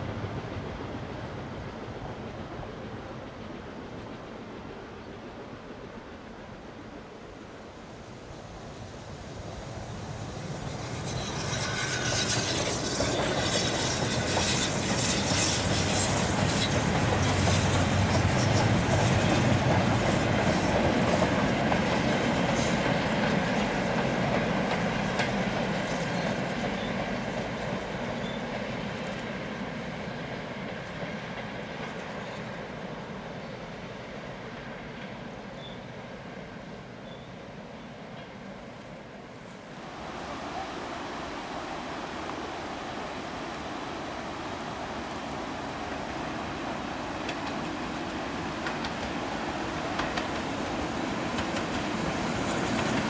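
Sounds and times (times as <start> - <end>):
steam locomotive passing: 0.0 - 53.0.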